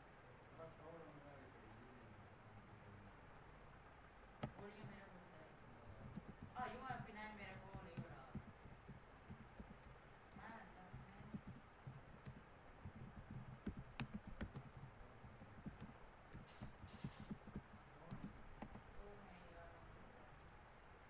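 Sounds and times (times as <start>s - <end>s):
faint keyboard typing: 0.2s - 3.1s, 4.4s - 5.2s, 5.8s - 20.2s.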